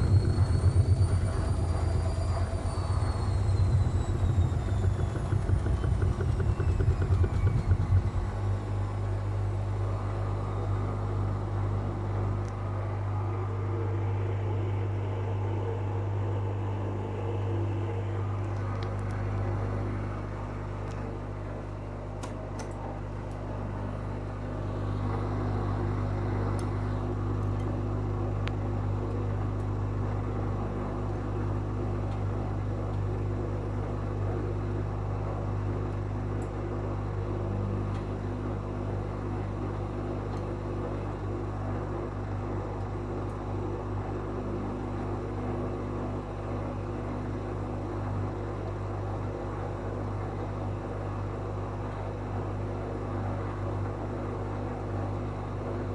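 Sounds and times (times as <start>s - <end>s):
washing machine running: 0.0s - 55.9s.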